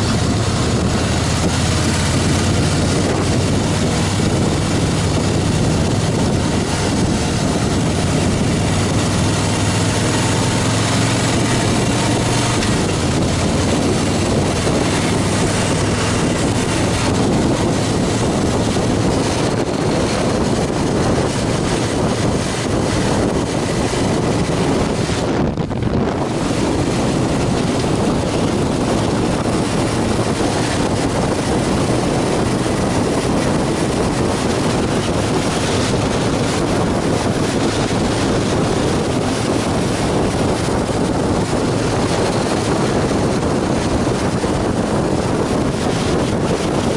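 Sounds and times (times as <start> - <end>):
motorcycle engine droning: 0.0 - 46.9
wind buffeting microphone: 0.0 - 46.9.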